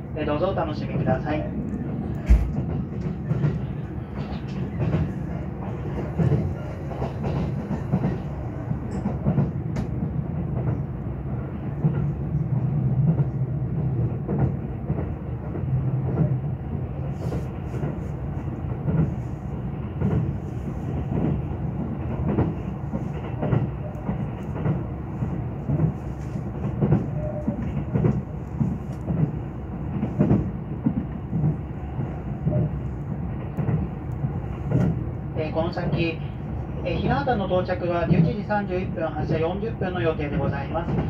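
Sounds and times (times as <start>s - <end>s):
train cabin low rumble: 0.0s - 41.0s.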